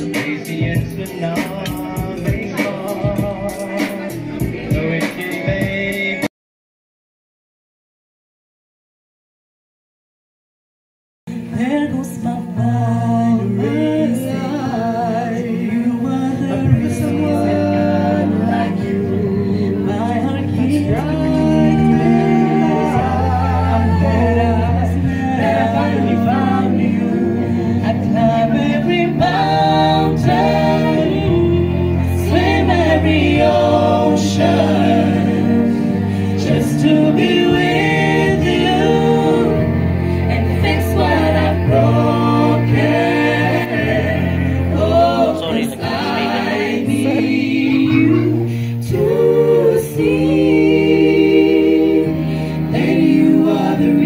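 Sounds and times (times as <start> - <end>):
low bass notes: 0.0 - 6.2, 11.3 - 54.0
vocal group singing: 0.0 - 6.3, 11.3 - 54.0.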